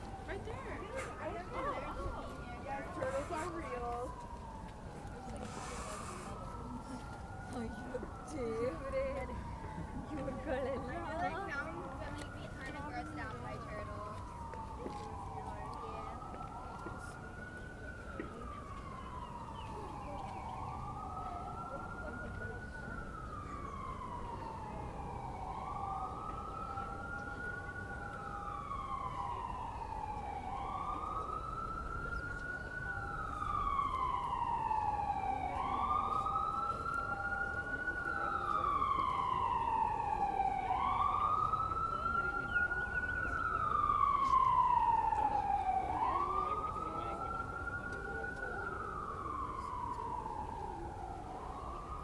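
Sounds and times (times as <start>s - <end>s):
emergency siren wailing: 0.0s - 52.0s.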